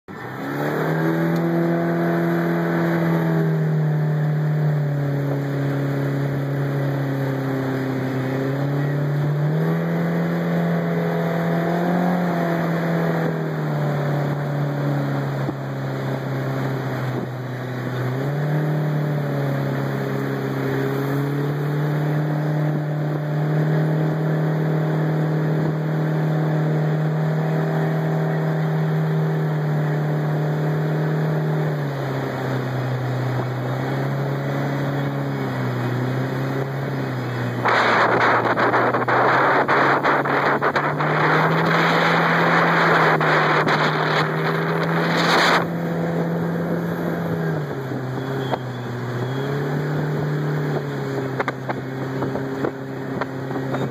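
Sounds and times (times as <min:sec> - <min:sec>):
outboard jet motor running: 0:00.1 - 0:53.9.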